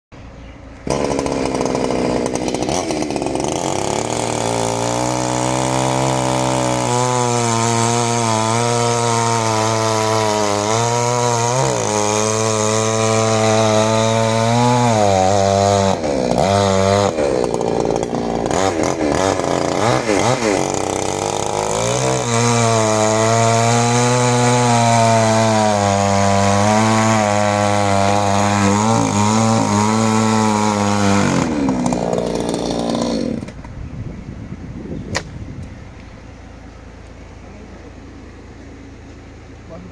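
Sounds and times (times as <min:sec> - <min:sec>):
chainsaw cutting through log: 0:00.8 - 0:33.7.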